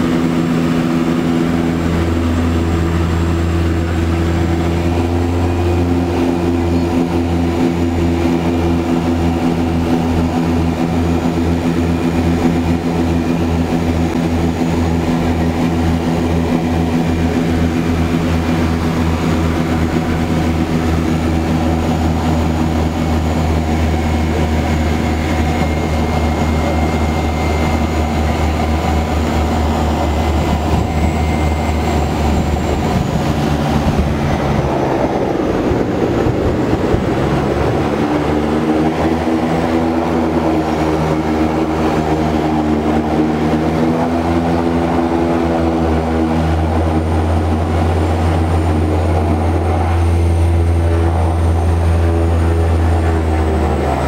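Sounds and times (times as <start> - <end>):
airplane engines droning in cabin: 0.0 - 54.0.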